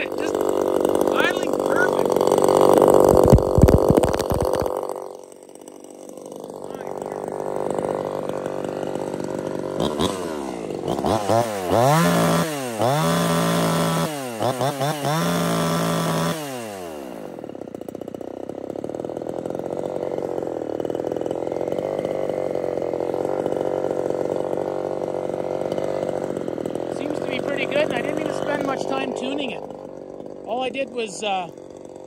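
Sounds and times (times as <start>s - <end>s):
chainsaw idling and revving: 0.0s - 32.0s.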